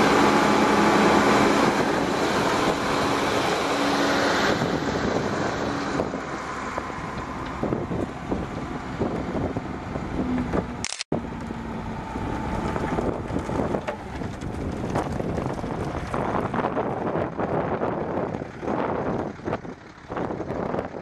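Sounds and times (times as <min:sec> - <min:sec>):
heavy wind noise on microphone: 0:00.0 - 0:10.9, 0:12.4 - 0:21.0
diesel truck engine running: 0:00.0 - 0:21.0.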